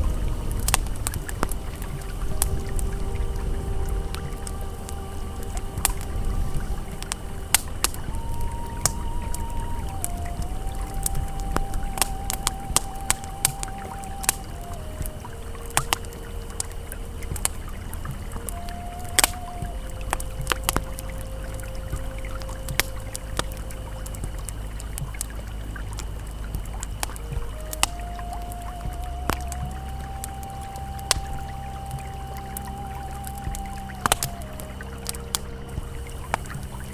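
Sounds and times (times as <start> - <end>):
campfire crackling and popping: 0.0 - 36.9
river flowing: 0.0 - 36.9
sustained synth tones: 0.0 - 36.9.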